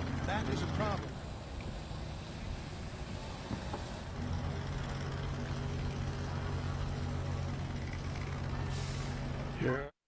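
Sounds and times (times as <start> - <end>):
diesel engine running: 0.0 - 9.9.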